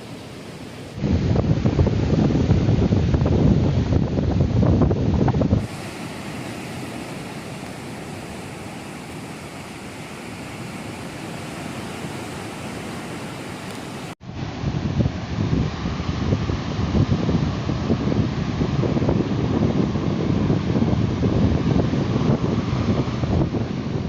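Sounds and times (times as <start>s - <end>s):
surf rushing: 0.0s - 24.0s
wind buffeting microphone: 0.0s - 24.0s.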